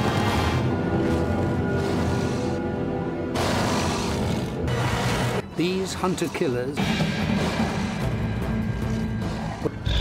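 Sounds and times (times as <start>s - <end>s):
dark orchestral music: 0.0s - 10.0s.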